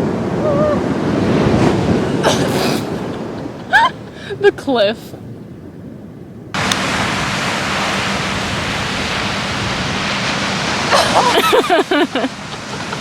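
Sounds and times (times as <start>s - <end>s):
ocean surf on a beach: 0.0s - 13.0s.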